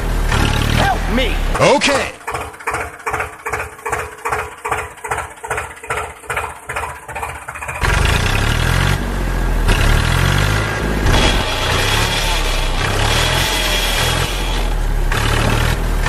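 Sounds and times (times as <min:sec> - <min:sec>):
deeper louder engine: 0:00.0 - 0:16.0
tractor engine idling: 0:00.0 - 0:16.0.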